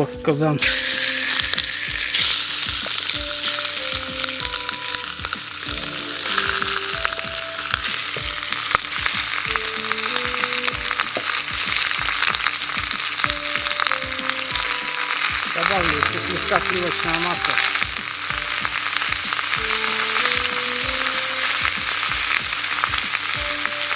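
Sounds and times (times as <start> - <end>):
faint soft melody: 0.0 - 23.9
meat sizzling in butter: 0.6 - 23.9.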